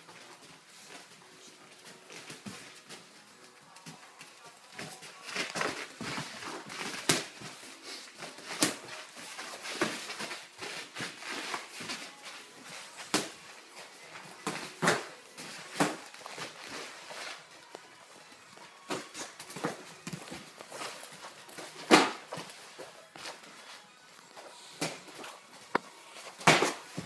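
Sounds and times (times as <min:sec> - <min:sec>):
bare feet shuffling on foam mat: 0:00.0 - 0:27.0.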